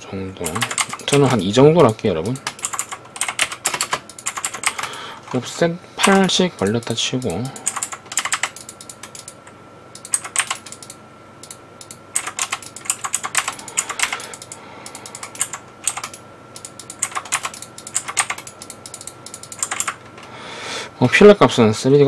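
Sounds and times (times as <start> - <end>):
computer keyboard typing: 0.4 - 5.4, 6.0 - 20.3.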